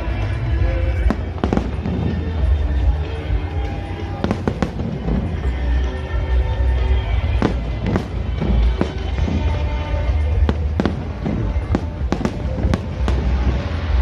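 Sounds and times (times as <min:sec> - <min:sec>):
deep rumble of distant fireworks: 0:00.0 - 0:14.0
music playing: 0:00.0 - 0:14.0
fireworks bursting in sharp bangs: 0:00.9 - 0:03.0, 0:03.6 - 0:06.0, 0:07.1 - 0:14.0.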